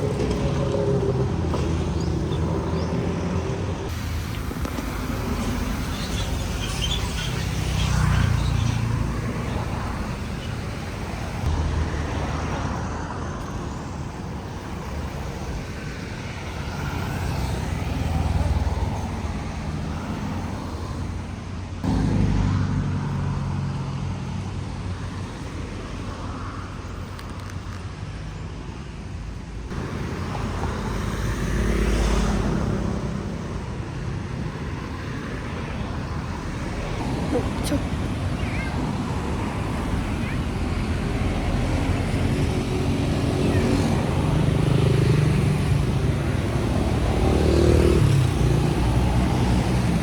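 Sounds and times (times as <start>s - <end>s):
vehicle rumble with road noise: 0.0s - 50.0s.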